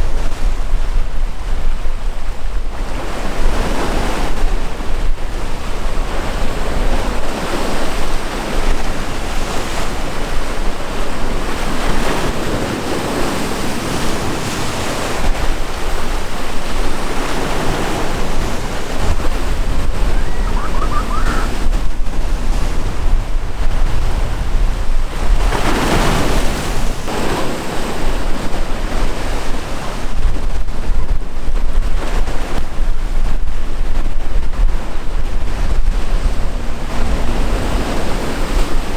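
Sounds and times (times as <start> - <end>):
wind buffeting microphone: 0.0 - 38.9
sea waves breaking: 2.4 - 33.8.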